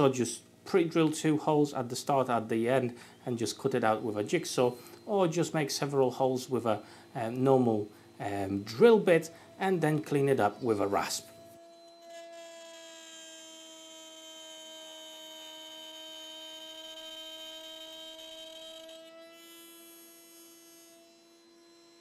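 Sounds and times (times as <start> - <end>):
router high whine: 0.0 - 22.0.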